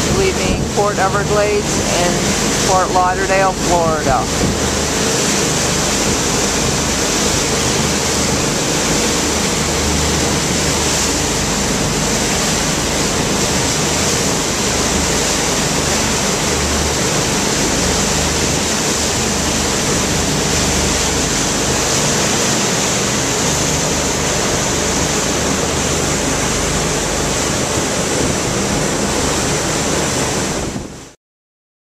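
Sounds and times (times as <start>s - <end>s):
churning water rushing: 0.0s - 31.2s
wind: 0.0s - 31.2s.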